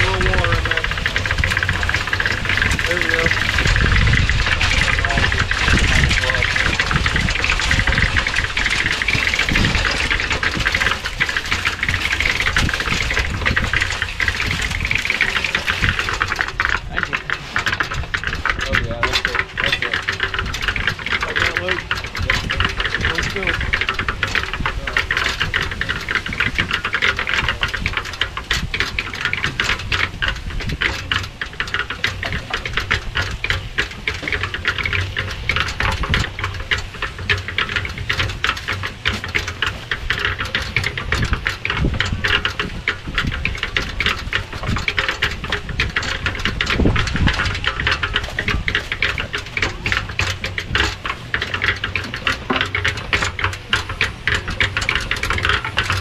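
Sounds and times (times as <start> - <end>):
concrete mixer churning: 0.0 - 56.0.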